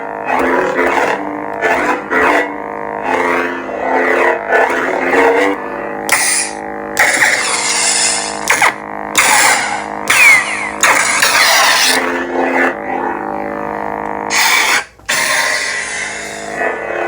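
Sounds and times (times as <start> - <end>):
lightsaber electric hum: 0.0 - 17.0.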